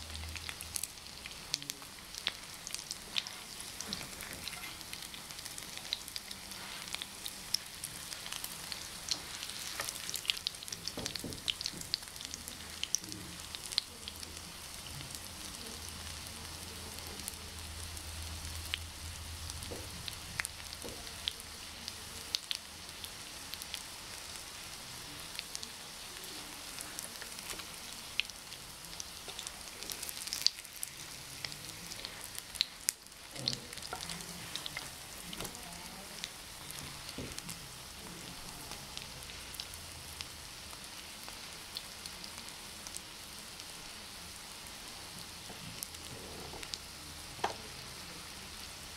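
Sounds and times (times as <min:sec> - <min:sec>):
patties sizzling in oil: 0:00.0 - 0:48.9.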